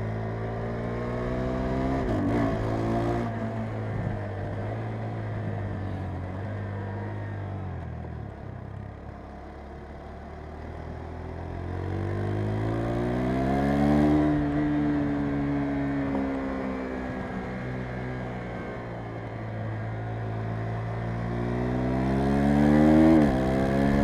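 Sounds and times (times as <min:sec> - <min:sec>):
motorcycle engine accelerating: 0:00.0 - 0:08.9, 0:09.8 - 0:24.0.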